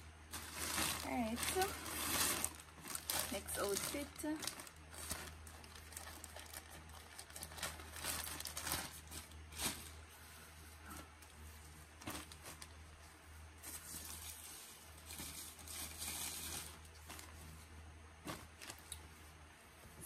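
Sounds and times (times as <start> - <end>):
packaging rustling and crinkling: 0.0 - 19.1
low steady hum: 0.0 - 20.0.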